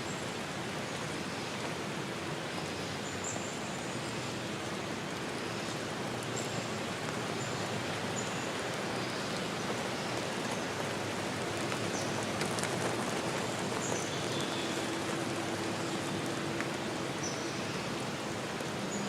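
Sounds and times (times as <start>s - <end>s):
running water hiss: 0.0s - 19.0s.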